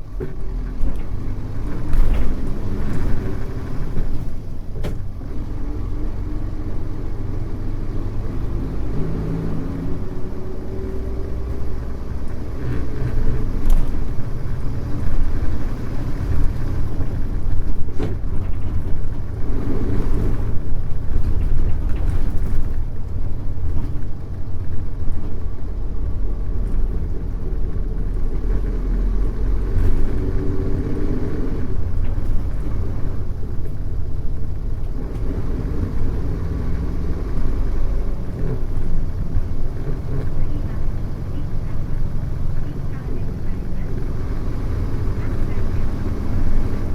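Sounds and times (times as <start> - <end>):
bus diesel engine rumble: 0.0 - 46.9
light rattles and clicks: 0.0 - 46.9.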